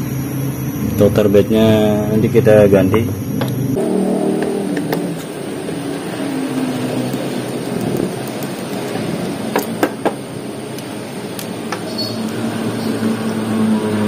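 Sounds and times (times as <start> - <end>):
background rush with low hum: 0.0 - 14.0.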